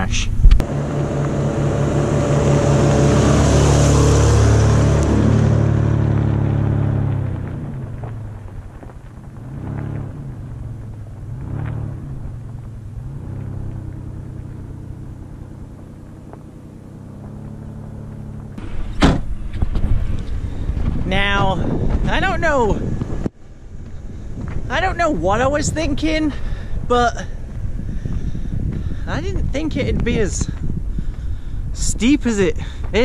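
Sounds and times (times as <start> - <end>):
car engine running: 0.2 - 29.9
tyres crunching over gravel: 0.6 - 31.4.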